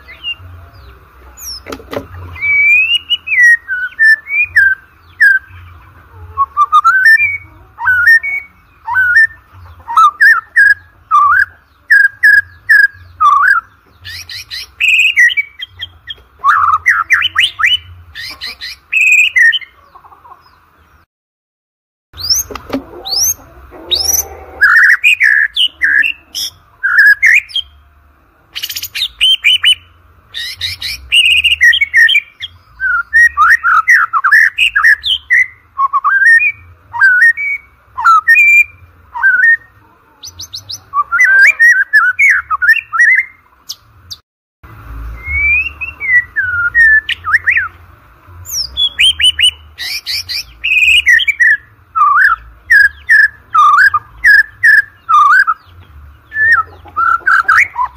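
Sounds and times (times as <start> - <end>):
bird singing whistled phrases: 2.3 - 5.6, 6.4 - 19.7, 22.2 - 27.7, 28.6 - 43.4, 45.1 - 47.8, 48.4 - 57.9.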